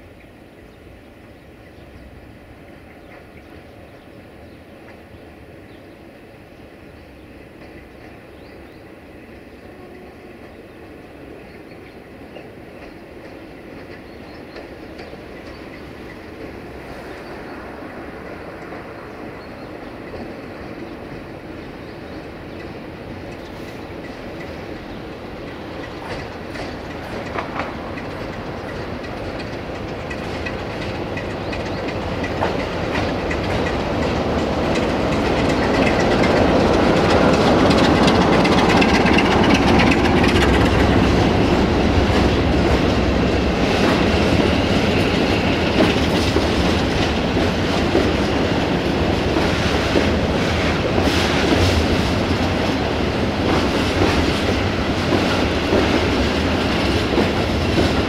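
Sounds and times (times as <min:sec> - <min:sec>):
locomotive engine hum: 0:00.0 - 0:58.0
wheels clacking over rail joints: 0:11.4 - 0:58.0.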